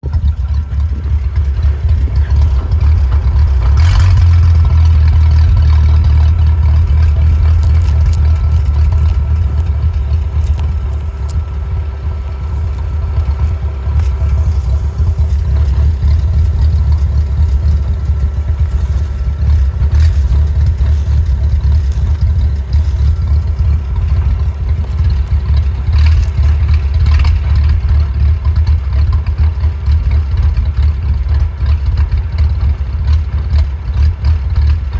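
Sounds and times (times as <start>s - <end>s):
engine idling roughly: 0.0s - 34.9s.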